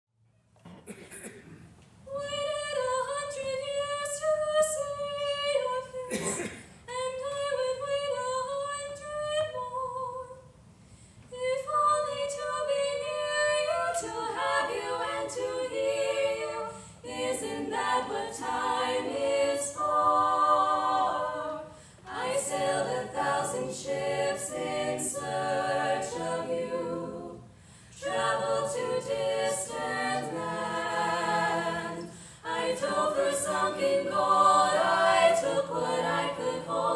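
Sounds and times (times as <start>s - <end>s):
a cappella women singing ballad: 2.0s - 10.6s, 11.2s - 36.9s.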